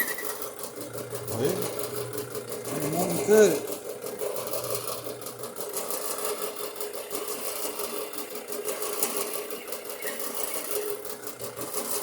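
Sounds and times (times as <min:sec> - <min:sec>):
drill press humming: 0:00.0 - 0:12.0.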